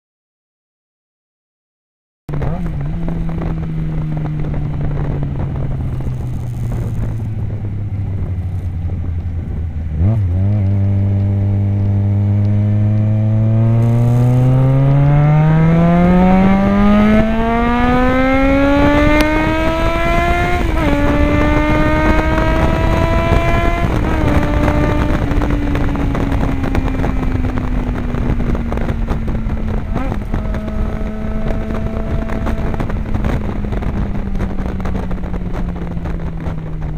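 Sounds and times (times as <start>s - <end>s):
motorcycle engine revving loud: 2.3s - 36.9s.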